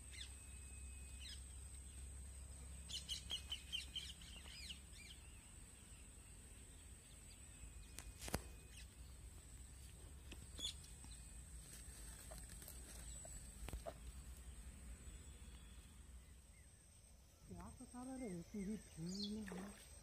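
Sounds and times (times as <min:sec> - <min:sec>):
faint bird chirps: 0:02.9 - 0:19.8.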